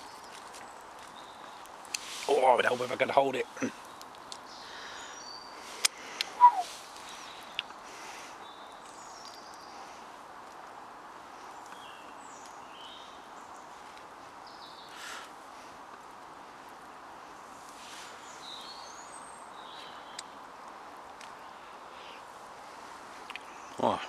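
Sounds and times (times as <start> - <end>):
outdoor background hiss: 0.0 - 24.0
small birds chirping: 0.0 - 24.0.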